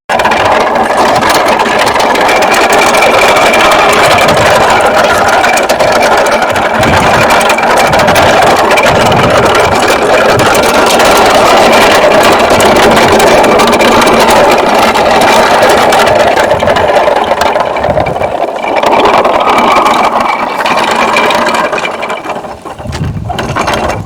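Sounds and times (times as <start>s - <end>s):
loud engine-like drone: 0.1s - 24.0s.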